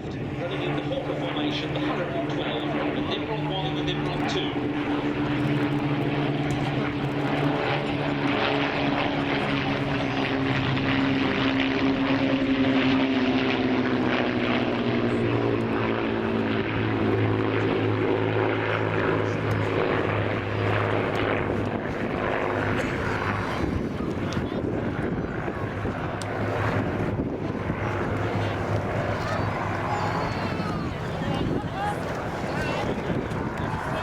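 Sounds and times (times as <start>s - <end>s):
propeller aircraft flying past: 0.0s - 34.0s.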